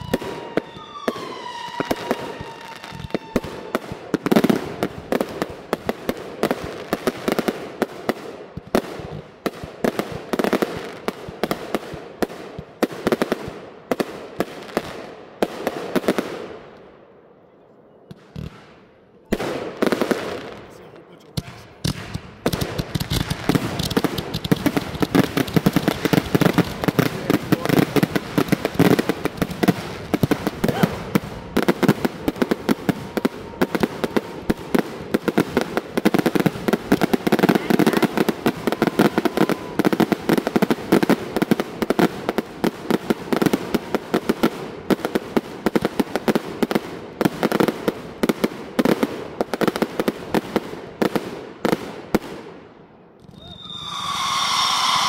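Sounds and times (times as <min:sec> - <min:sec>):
fireworks popping and crackling: 0:00.0 - 0:16.6, 0:18.1 - 0:52.6.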